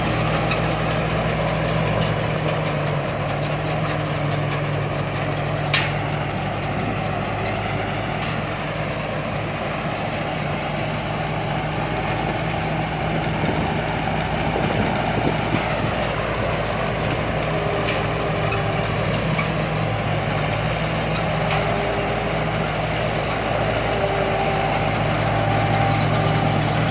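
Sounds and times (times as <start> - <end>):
diesel engine humming: 0.0 - 26.9.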